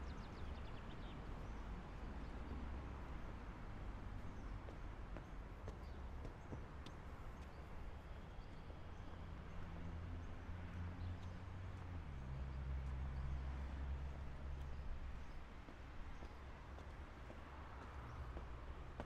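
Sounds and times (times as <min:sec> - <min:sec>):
city street ambience: 0:00.0 - 0:19.0.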